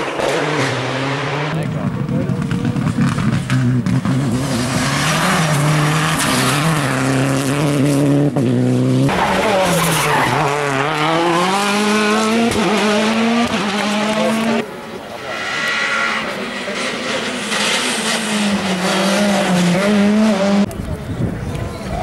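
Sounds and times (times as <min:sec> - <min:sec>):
rally car engines shifting gears: 0:00.0 - 0:22.0.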